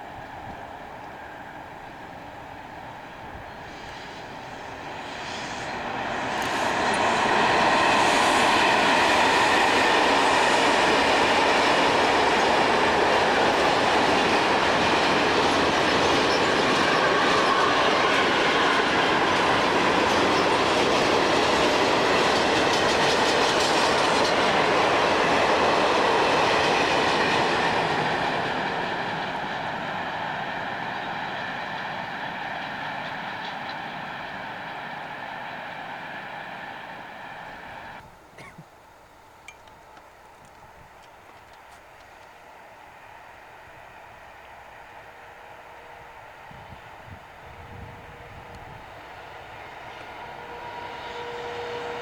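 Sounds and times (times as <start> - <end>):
train wheels on rails: 0.0 - 38.5, 39.2 - 52.0.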